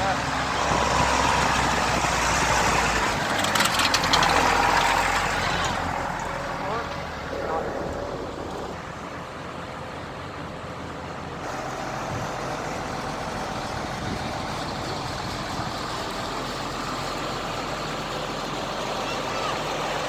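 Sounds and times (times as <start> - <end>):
heavy vehicle engines running: 0.0 - 20.0.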